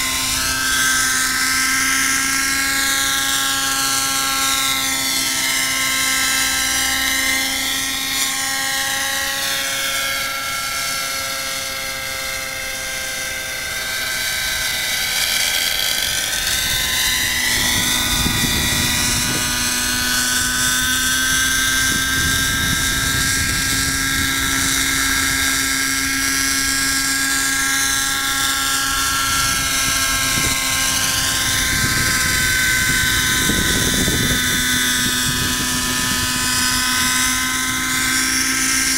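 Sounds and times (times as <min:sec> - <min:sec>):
model helicopter engine whining: 0:00.0 - 0:38.9.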